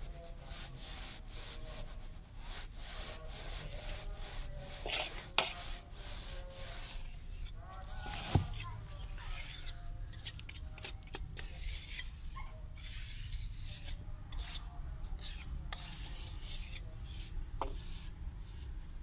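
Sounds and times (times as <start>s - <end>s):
hand scraping grit in a mould: 0.0s - 19.0s.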